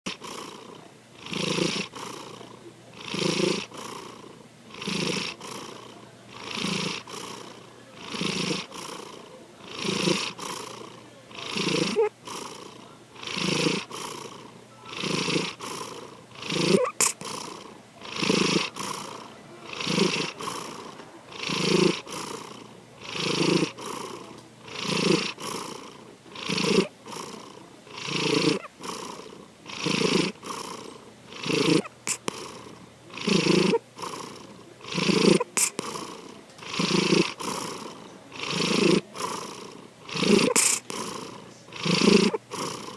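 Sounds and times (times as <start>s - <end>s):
cat snoring: 0.1s - 42.9s.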